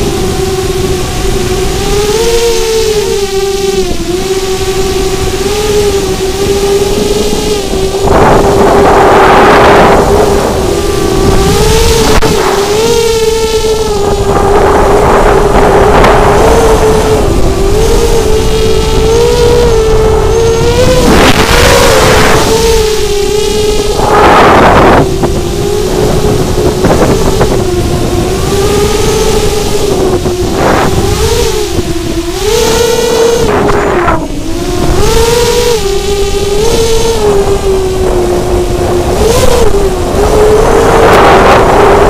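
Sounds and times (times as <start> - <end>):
quadcopter motors whining: 0.0 - 42.0
wind noise on microphone: 0.0 - 42.0.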